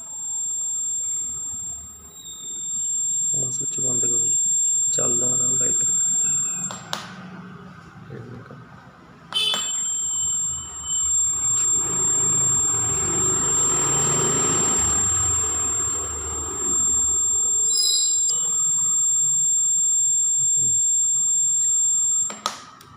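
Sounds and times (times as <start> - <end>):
high-pitched alarm buzzer: 0.0 - 7.2, 9.3 - 22.8.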